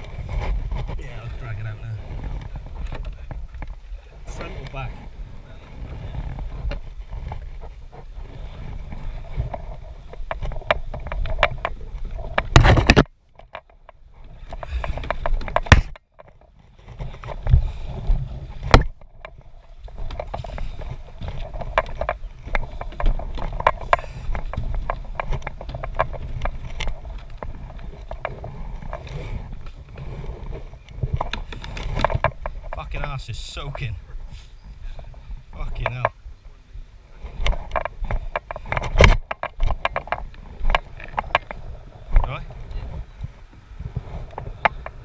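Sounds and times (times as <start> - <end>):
paddle strokes: 0.0 - 45.0.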